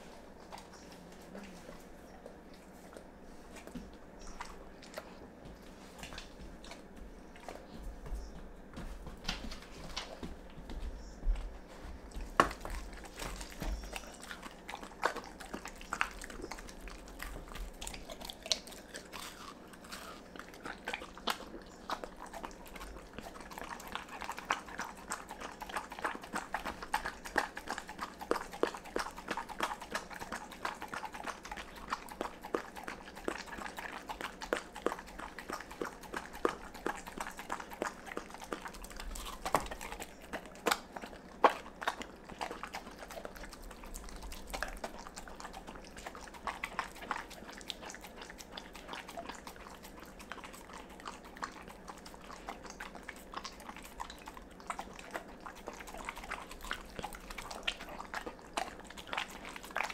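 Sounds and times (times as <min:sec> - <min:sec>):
dog licking and eating: 0:00.0 - 0:59.9.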